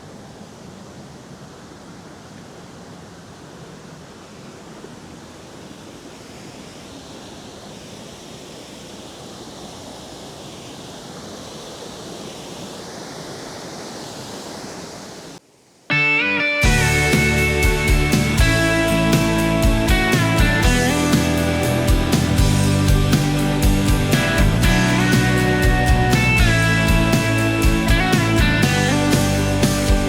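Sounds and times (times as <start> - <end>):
waterfall rushing: 4.6 - 30.0.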